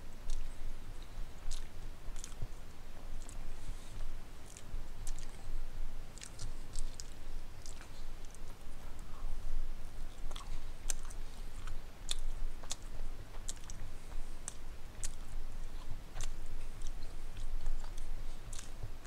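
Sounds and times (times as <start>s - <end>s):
person chewing: 0.2s - 5.6s, 6.2s - 9.2s, 10.1s - 18.8s.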